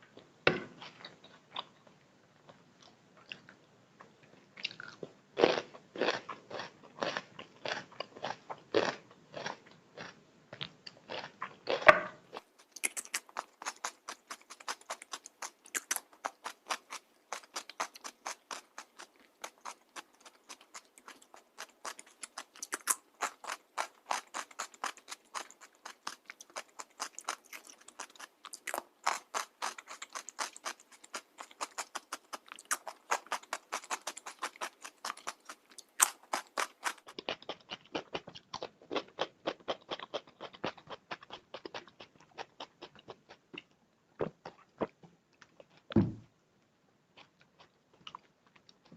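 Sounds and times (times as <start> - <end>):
person chewing crunchy food: 0.8 - 45.9, 47.2 - 48.9.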